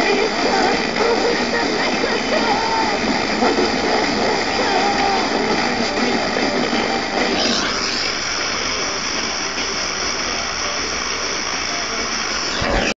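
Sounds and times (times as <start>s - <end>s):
faint radio programme: 0.0s - 13.0s
radio static hiss: 0.0s - 13.0s.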